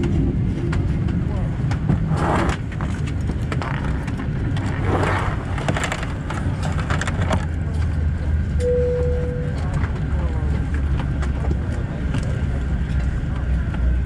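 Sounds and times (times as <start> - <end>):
airliner cabin hum: 0.0 - 14.0.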